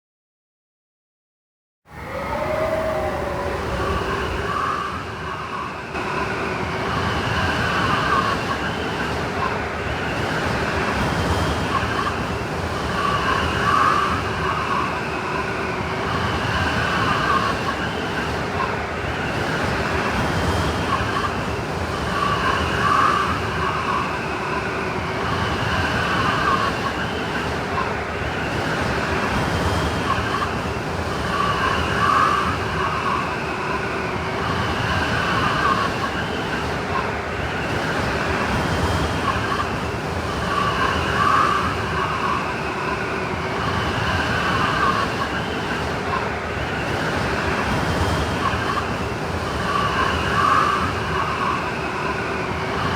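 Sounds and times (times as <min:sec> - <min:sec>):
howling blizzard wind: 0:01.9 - 0:52.9.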